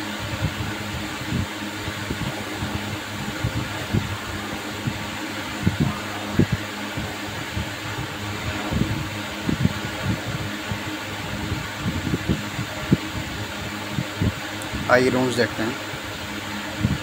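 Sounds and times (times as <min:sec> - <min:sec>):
electric ceiling fan humming: 0:00.0 - 0:17.0.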